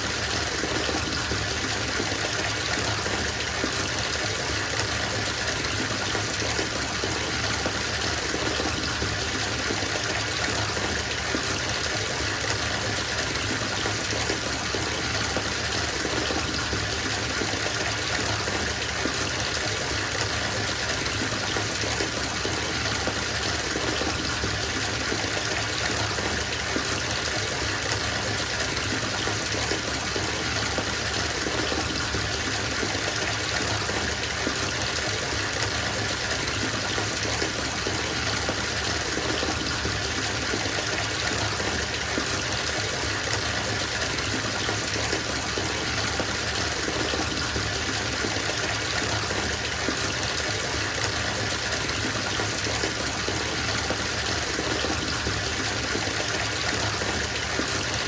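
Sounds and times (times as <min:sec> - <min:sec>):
water pouring into bathtub: 0:00.0 - 0:58.0.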